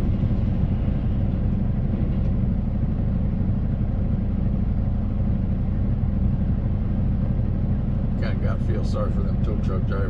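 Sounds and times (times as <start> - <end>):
road noise: 0.0 - 10.0
truck diesel engine rumble: 0.0 - 10.0.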